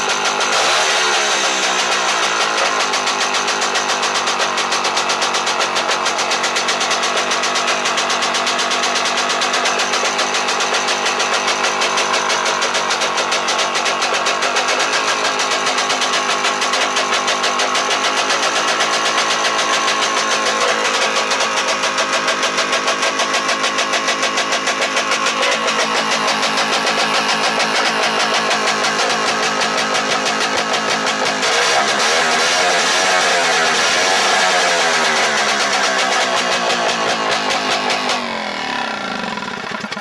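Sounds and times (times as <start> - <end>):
two-stroke engine running: 0.0 - 40.0.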